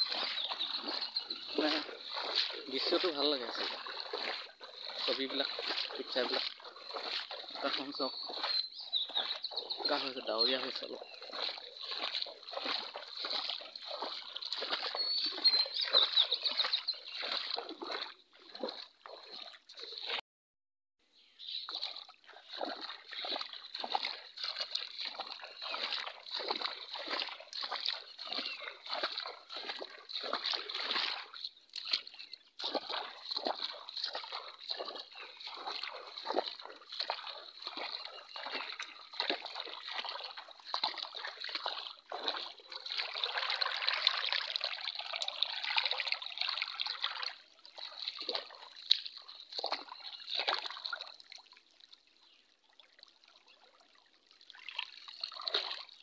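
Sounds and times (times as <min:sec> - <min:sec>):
feet wading through shallow water: 0:00.0 - 0:20.2, 0:21.4 - 0:56.0.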